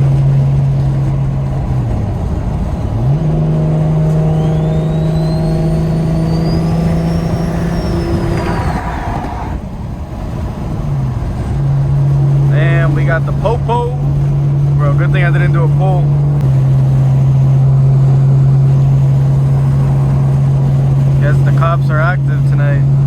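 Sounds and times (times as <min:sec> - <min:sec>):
car engine from inside cabin: 0:00.0 - 0:23.0
high thin turbo whine: 0:00.0 - 0:23.0.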